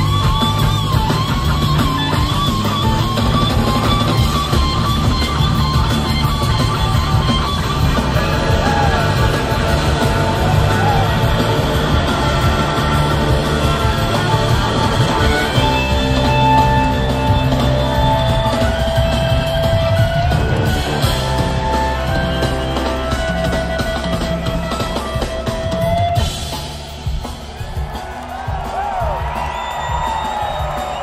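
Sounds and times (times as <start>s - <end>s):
electric slide guitar: 0.0s - 26.5s
blues-rock band playing: 0.0s - 31.0s.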